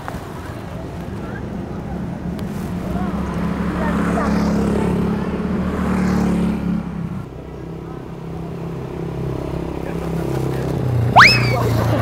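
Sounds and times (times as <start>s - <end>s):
motorcycles passing by: 0.0s - 12.0s.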